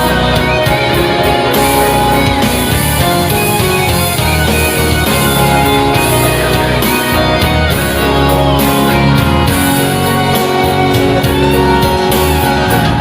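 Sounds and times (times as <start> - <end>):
guitar: 0.0 - 13.0
steady bass: 0.0 - 13.0.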